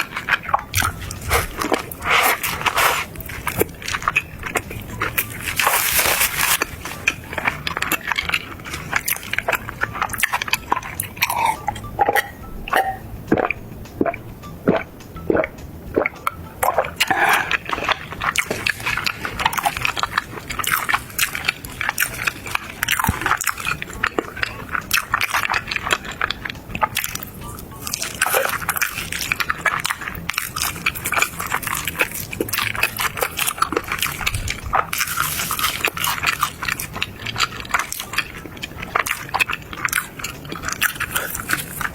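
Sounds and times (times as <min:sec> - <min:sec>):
person chewing crunchy food: 0:00.0 - 0:41.9
wet mouth sounds: 0:00.0 - 0:41.9.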